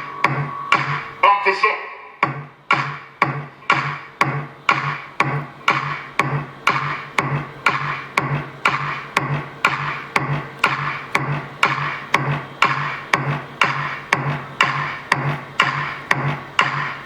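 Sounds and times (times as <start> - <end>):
bass-boosted electronic music: 0.0 - 17.0.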